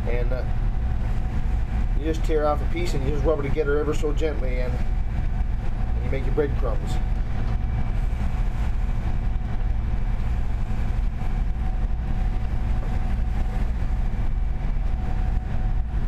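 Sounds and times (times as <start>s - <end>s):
boat engine drone: 0.0s - 16.0s
faint steady whine: 0.0s - 16.0s.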